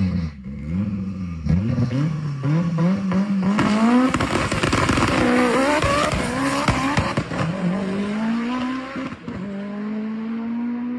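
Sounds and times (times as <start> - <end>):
car engine accelerating hard: 0.0 - 10.9.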